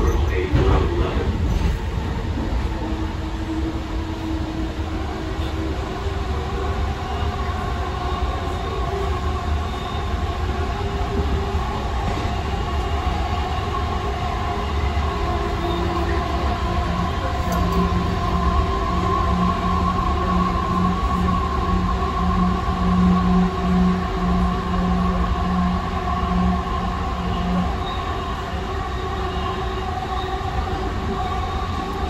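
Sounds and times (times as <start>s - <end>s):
steady whine: 0.0s - 32.0s
wheels rumbling on rail: 0.0s - 32.0s.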